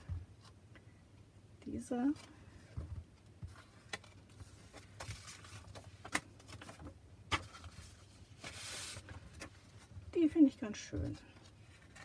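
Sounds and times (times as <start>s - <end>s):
rustling of card stock: 1.9s - 12.0s.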